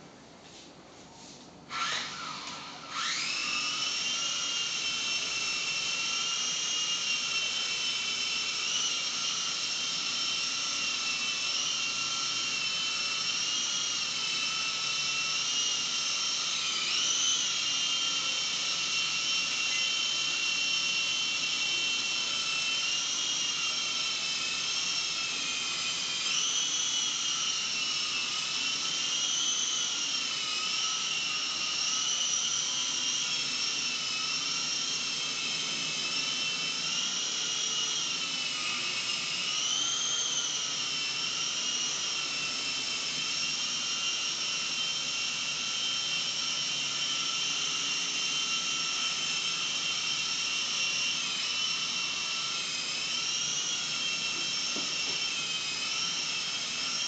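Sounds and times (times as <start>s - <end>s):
rc helicopter motor whine: 1.7s - 57.0s.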